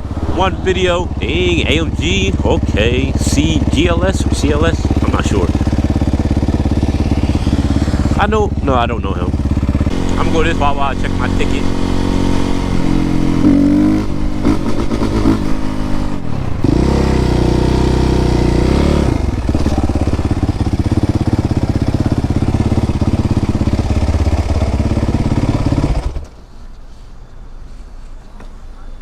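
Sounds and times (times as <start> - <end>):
motorcycle engine running: 0.0 - 26.3.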